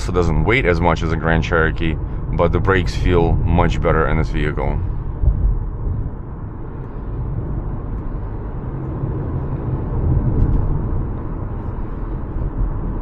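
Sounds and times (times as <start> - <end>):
tyre and road rumble: 0.0 - 13.0.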